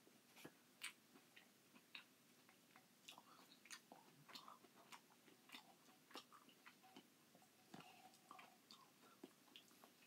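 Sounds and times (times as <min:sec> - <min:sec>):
wet chewing and mouth smacks: 0:00.4 - 0:10.0.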